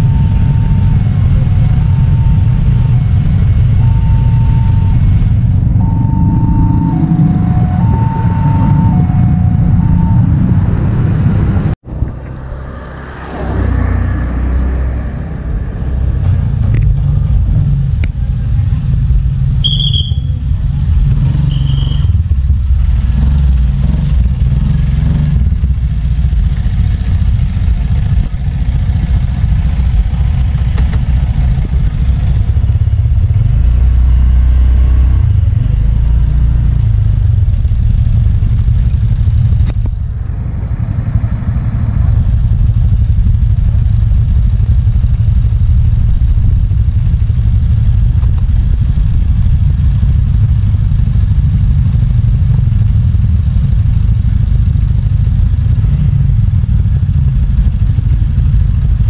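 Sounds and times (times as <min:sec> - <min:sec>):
motor scooter engines running: 0:00.0 - 0:10.7, 0:15.2 - 0:33.8, 0:35.2 - 0:59.0.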